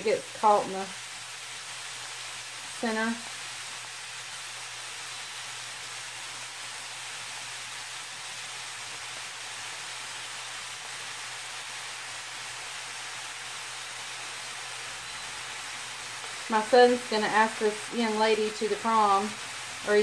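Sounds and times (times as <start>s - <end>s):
sausage and onions sizzling: 0.0s - 20.0s.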